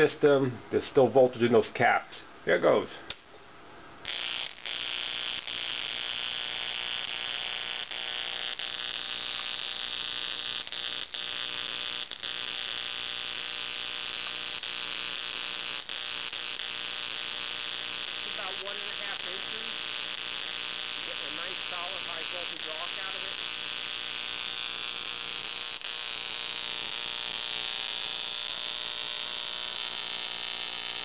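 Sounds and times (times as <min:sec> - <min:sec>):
electric arc buzzing: 0:04.0 - 0:31.0.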